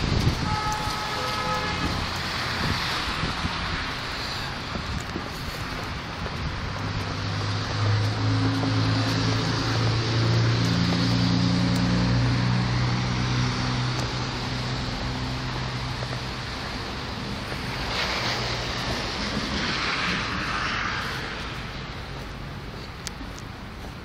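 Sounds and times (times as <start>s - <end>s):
blizzard wind blowing: 0.0s - 24.0s
vehicle engine drone passing: 1.4s - 23.8s.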